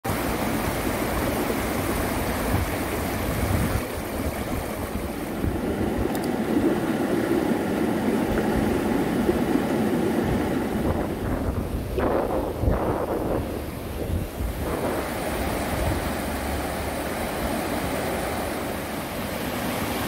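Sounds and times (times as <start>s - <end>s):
river rushing over rocks: 0.1s - 20.0s.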